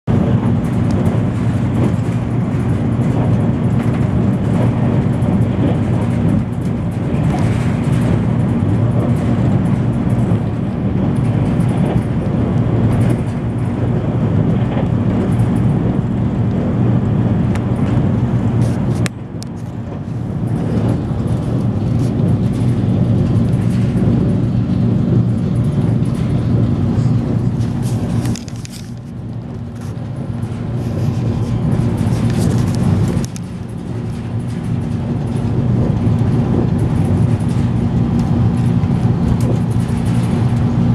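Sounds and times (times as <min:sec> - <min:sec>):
train rumbling inside carriage: 0:00.0 - 0:40.9.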